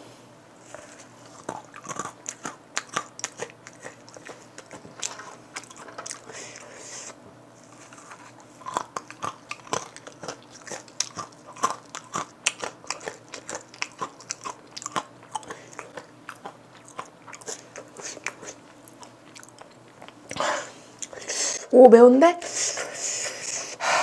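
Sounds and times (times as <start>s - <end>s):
crunchy chewing of peanuts: 0.6s - 21.7s.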